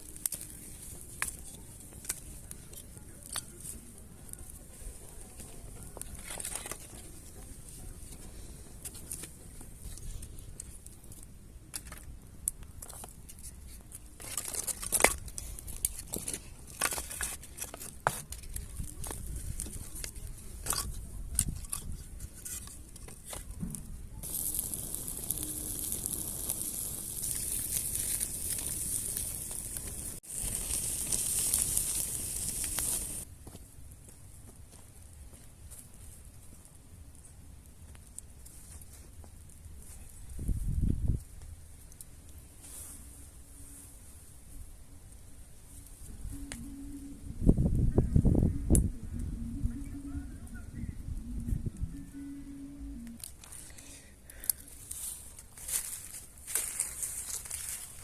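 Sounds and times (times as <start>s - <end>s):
high hiss from embers: 0.0s - 33.9s, 34.8s - 47.6s, 52.8s - 58.0s
wood fire crackling: 0.0s - 58.0s.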